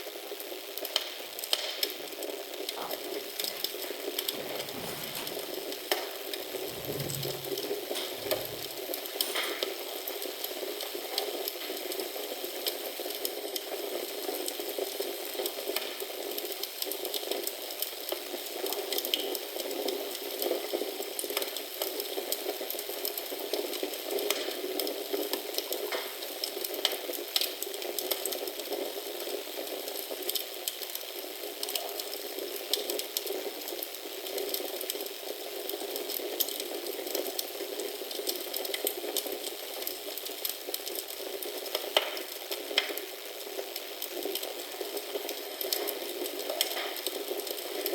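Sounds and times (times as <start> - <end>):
wood fire crackling: 0.1 - 47.9.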